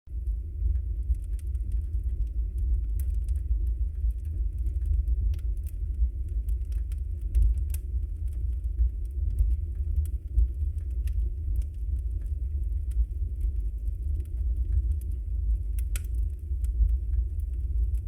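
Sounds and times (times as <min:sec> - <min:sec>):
wood fire crackling and popping: 0:00.1 - 0:18.0.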